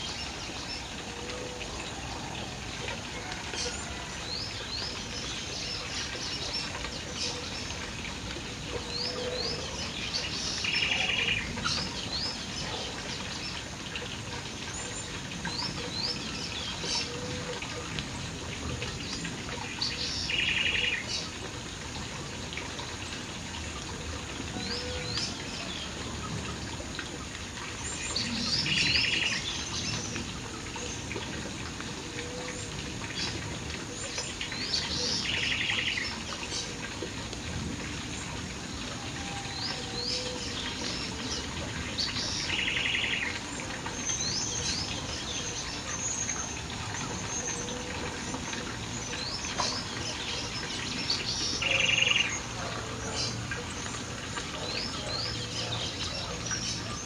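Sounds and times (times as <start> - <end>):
birds singing and chirping: 0.0 - 57.0.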